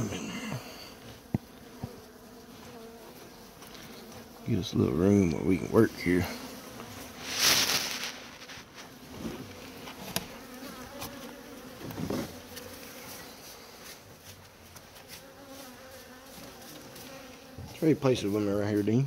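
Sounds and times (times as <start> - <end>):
bees buzzing: 0.0 - 18.9.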